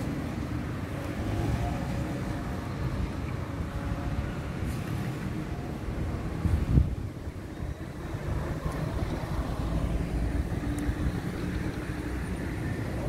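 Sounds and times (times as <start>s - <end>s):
city street traffic rumble: 0.0s - 13.0s
vehicle engine humming: 0.0s - 13.0s.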